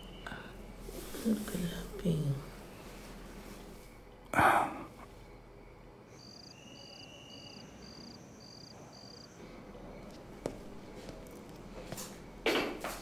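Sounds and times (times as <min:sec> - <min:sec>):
crickets chirping: 0:00.0 - 0:13.0
faint high insect trill: 0:00.0 - 0:13.0.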